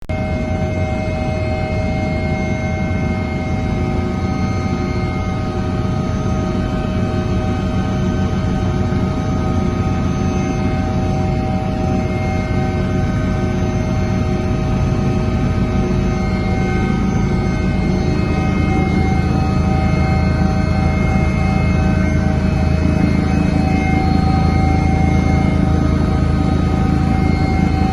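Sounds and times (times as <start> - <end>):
constant engine whine: 0.0 - 27.9
helicopter engine and rotor rumble: 0.1 - 27.9.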